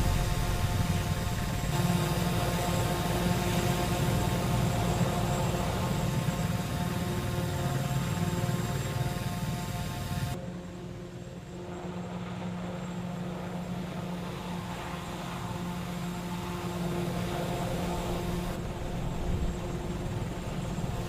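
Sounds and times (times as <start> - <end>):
hovering vehicle engine drone: 0.0 - 21.0.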